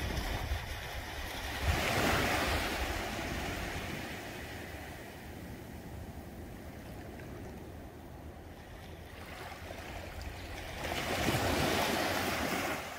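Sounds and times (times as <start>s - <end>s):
sea waves washing against shore: 0.0s - 12.9s.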